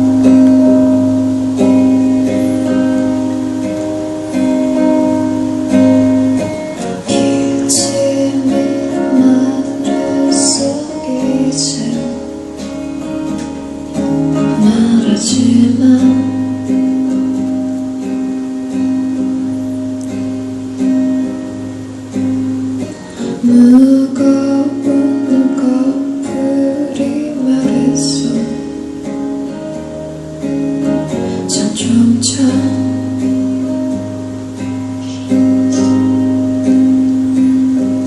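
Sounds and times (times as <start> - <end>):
person singing: 0.0 - 17.7, 22.8 - 29.8, 31.0 - 38.0
acoustic guitar strumming: 0.0 - 38.0.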